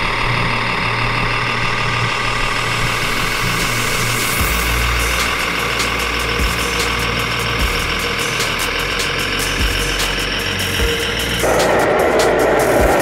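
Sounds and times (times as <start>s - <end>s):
simulated diesel engine idling: 0.0s - 13.0s.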